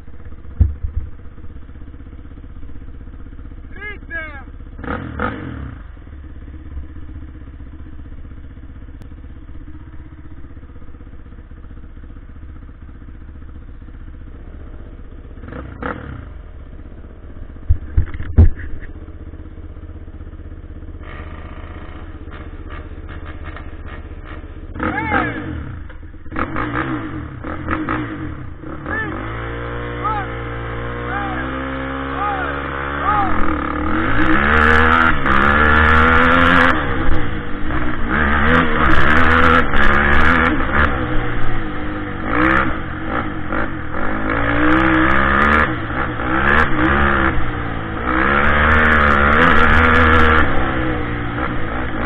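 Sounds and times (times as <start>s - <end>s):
quad engine idling and revving: 0.0s - 52.0s.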